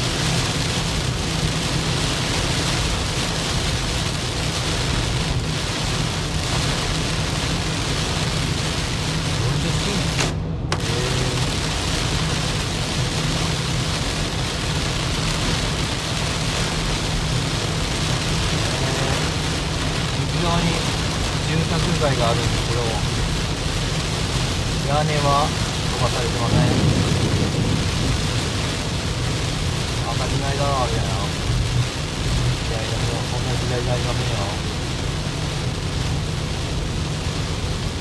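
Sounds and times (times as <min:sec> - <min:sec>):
heavy rain hissing on car: 0:00.0 - 0:38.0
road and tyre drone: 0:00.0 - 0:38.0.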